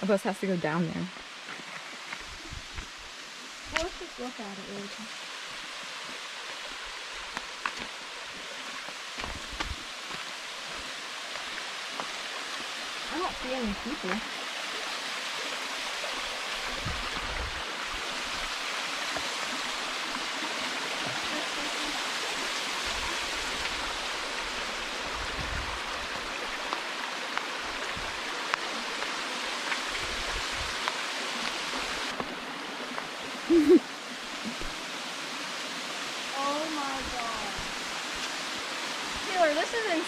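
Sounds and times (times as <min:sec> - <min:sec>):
waterfall rushing: 0:02.9 - 0:40.0.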